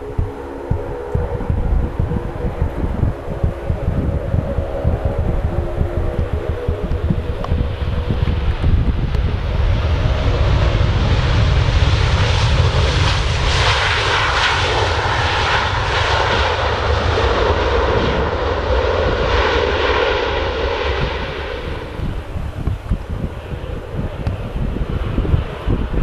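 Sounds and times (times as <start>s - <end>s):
airliner passing by: 0.0s - 26.0s.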